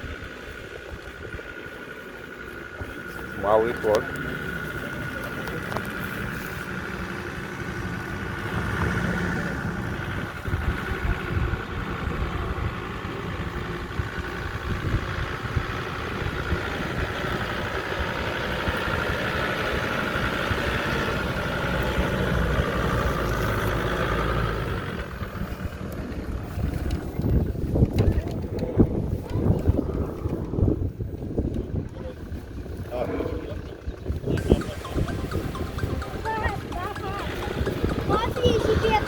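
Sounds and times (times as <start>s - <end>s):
vehicle engine running at low speed: 0.0s - 39.0s.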